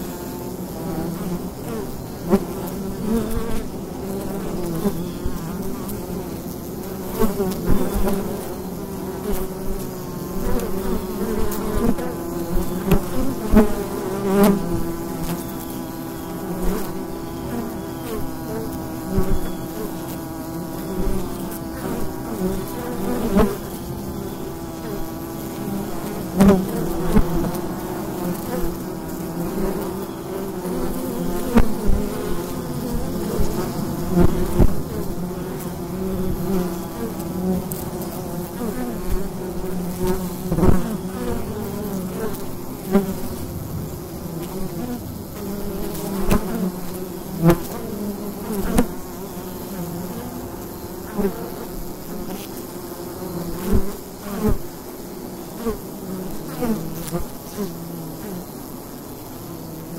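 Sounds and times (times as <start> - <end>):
bee colony buzzing: 0.0 - 59.9
single bee flying past: 0.0 - 59.9.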